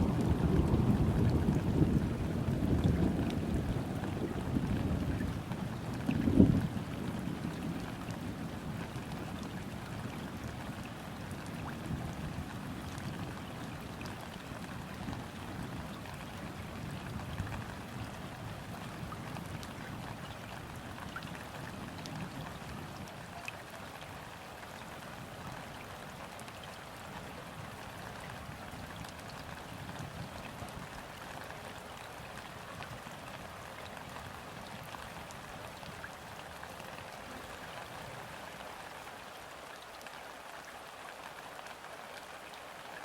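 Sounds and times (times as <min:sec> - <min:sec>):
rain falling on river: 0:00.0 - 0:43.0.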